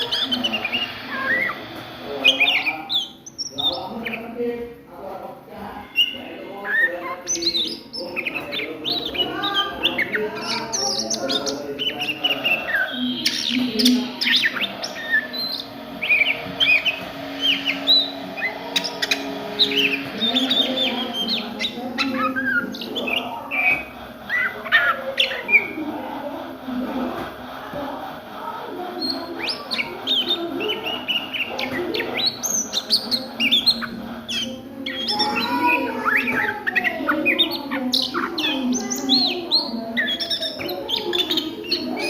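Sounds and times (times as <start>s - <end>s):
bird singing chirps and whistles: 0.0s - 4.4s, 5.8s - 25.8s, 29.0s - 42.0s.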